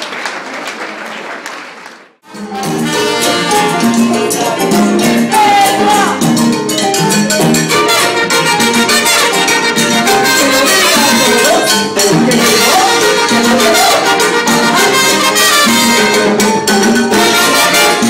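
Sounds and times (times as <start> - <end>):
crowd hubbub: 0.0 - 18.0
latin dance band with brass: 2.1 - 18.0.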